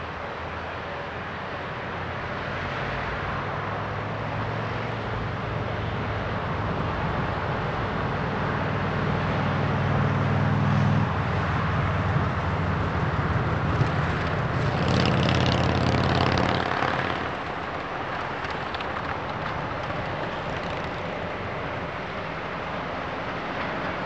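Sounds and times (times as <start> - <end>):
diesel locomotive engine drone: 0.0 - 24.0
passing vehicle: 0.0 - 24.0
road traffic hiss: 0.0 - 24.0.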